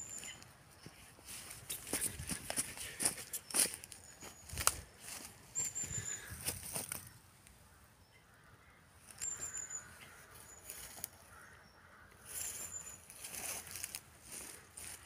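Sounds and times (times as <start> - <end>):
footsteps in undergrowth: 0.0 - 7.2, 9.0 - 11.5, 12.2 - 15.0
twigs and brush crackling: 0.0 - 7.6, 9.0 - 11.4, 12.3 - 15.0.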